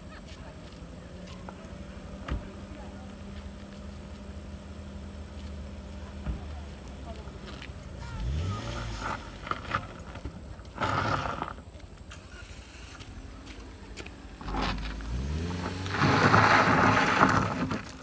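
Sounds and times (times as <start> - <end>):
road noise: 0.0 - 18.0
vehicle engine revving: 0.9 - 18.0.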